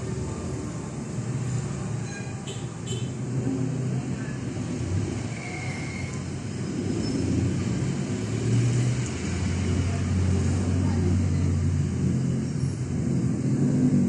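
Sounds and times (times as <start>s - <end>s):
vehicle engines rumbling past: 0.0s - 14.0s.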